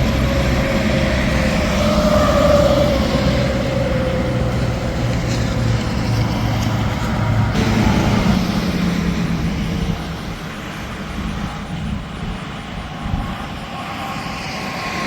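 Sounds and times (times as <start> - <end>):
semi truck passing: 0.0 - 15.0
traffic engine drone and tyre noise: 0.0 - 15.0.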